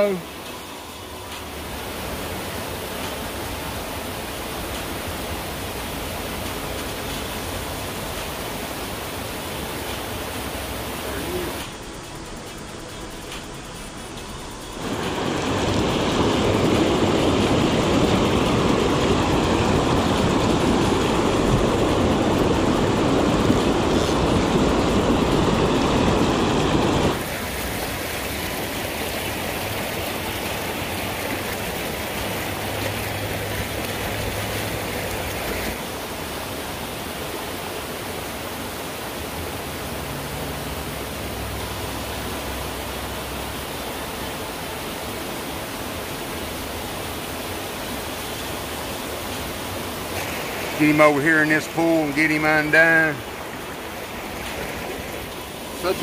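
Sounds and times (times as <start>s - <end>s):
water rushing in creek: 0.0s - 56.0s.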